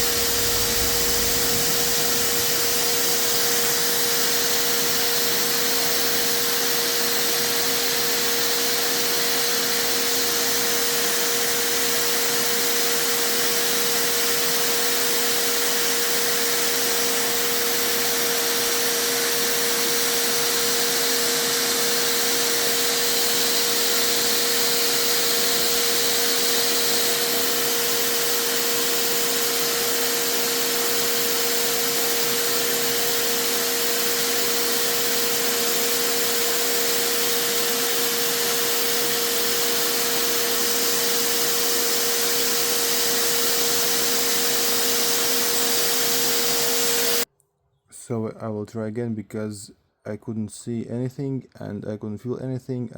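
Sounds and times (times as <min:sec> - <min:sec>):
vacuum cleaner motor whine: 0:00.0 - 0:47.3.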